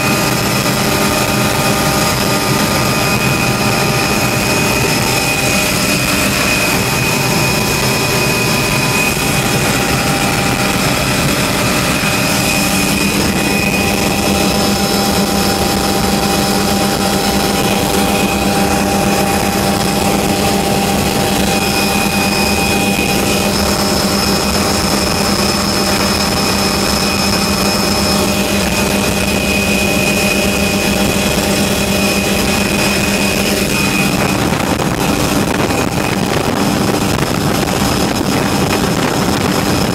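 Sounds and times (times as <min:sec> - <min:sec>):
helicopter engine and rotor noise: 0:00.0 - 0:39.9
high-pitched whine: 0:00.0 - 0:39.9.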